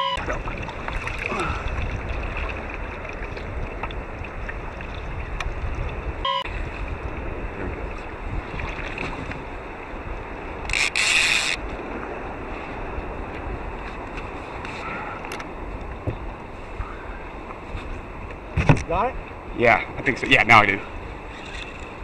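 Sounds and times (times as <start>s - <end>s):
water lapping against kayak: 0.0s - 20.1s, 20.7s - 22.0s
wind buffeting microphone: 0.0s - 22.0s.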